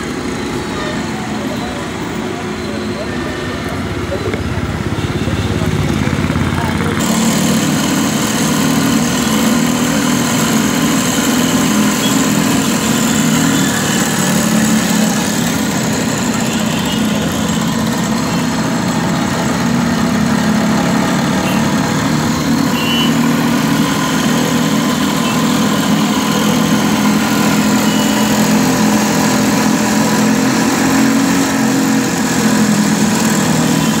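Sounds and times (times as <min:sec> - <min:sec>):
cotton candy machine motor hum: 0:03.4 - 0:34.0.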